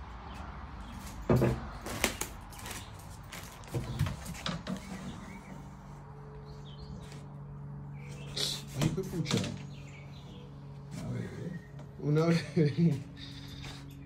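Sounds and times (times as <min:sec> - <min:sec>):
steady low hum: 0:01.8 - 0:14.0.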